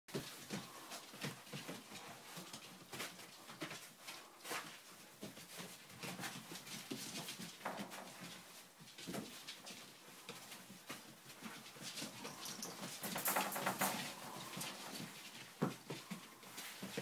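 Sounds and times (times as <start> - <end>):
dogs rustling in paper: 0.1 - 17.0.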